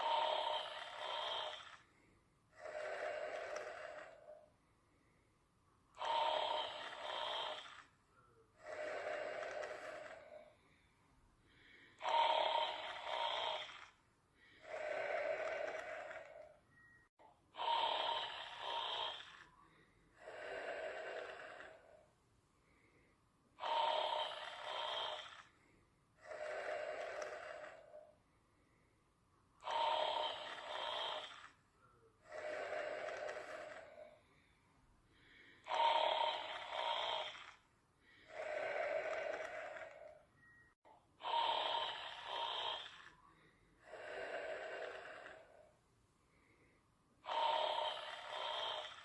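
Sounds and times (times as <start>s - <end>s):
person snoring: 0.0s - 2.0s, 2.6s - 4.5s, 5.9s - 10.9s, 11.5s - 16.6s, 17.5s - 23.0s, 23.6s - 28.1s, 29.6s - 31.6s, 32.2s - 34.5s, 35.1s - 40.3s, 41.2s - 49.0s.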